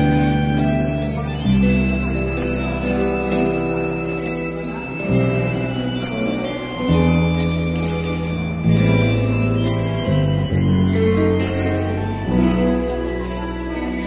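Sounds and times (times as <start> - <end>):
acoustic guitars: 0.0 - 14.0
bass guitar: 0.0 - 14.0.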